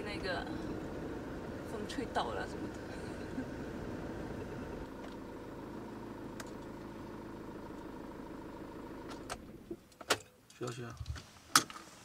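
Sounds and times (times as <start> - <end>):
engine rumble from inside cab: 0.0 - 12.0.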